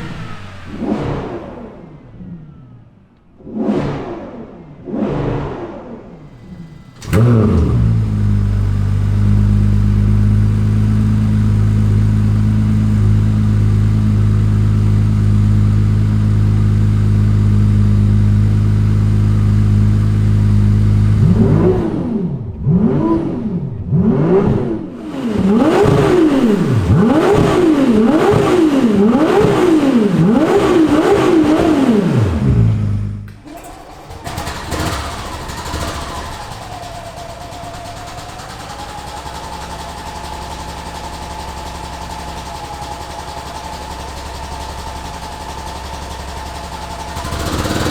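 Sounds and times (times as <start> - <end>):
car engine idling: 0.0 - 3.4, 6.1 - 22.6, 24.8 - 47.9
engine revving in throttle blips: 0.0 - 47.9.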